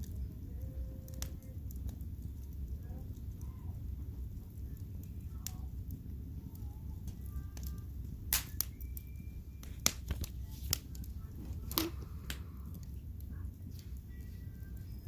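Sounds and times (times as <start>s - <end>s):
logs popping and cracking: 0.0s - 14.2s
wood fire crackling: 0.0s - 15.0s.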